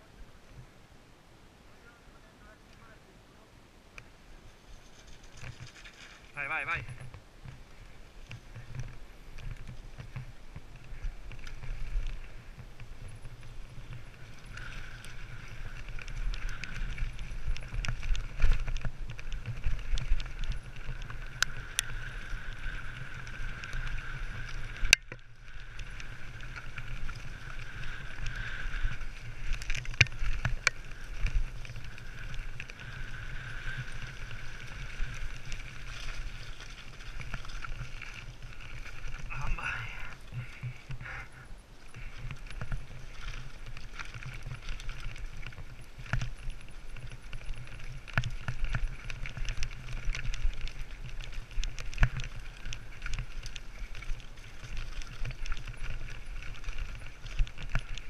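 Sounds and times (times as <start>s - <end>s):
wind: 0.0s - 58.0s
bike tyres rumbling on dirt: 4.0s - 58.0s
bike rattling over rocks: 4.5s - 58.0s.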